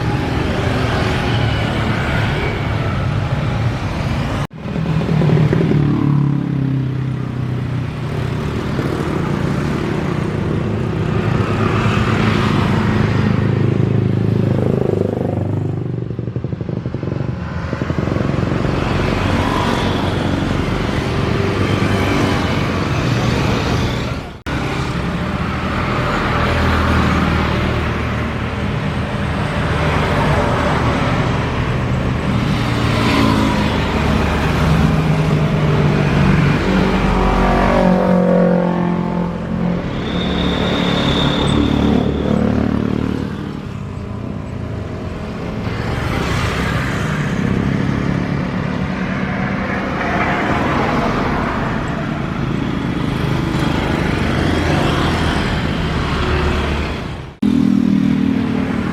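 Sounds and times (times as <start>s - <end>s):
cars passing by: 0.0s - 58.9s
motorbikes passing by: 0.0s - 58.9s.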